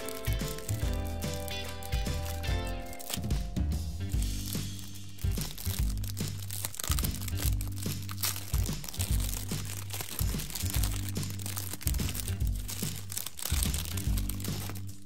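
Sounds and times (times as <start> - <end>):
foil wrapper crinkling: 0.0 - 15.0
music with bass beat: 0.0 - 15.0.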